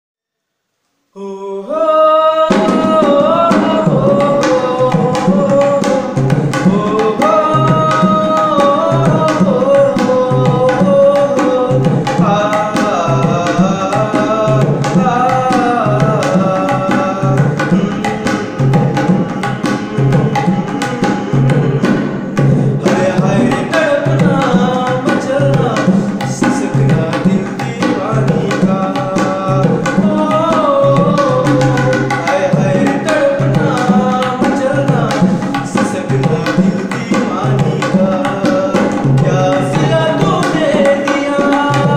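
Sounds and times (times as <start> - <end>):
man singing: 1.1 - 41.9
tabla drumming: 2.2 - 41.9.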